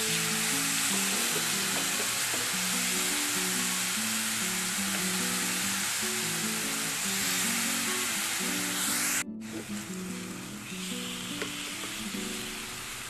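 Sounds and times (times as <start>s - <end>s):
chicken sizzling in a pan: 0.0s - 13.0s
light plucked background music: 0.0s - 13.0s.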